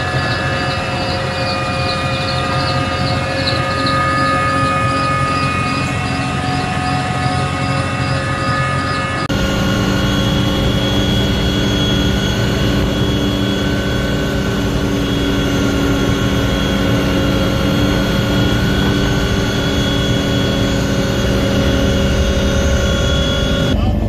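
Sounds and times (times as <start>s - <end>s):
aircraft engine drone in cabin: 0.0s - 24.0s.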